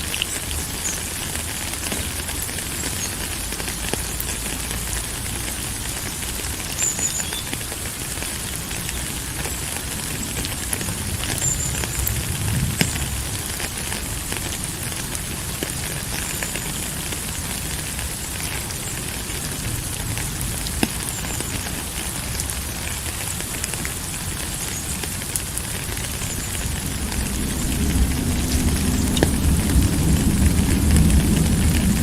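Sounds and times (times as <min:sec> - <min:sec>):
rain drops ticking: 0:00.0 - 0:32.0
steady rain hiss: 0:00.0 - 0:32.0.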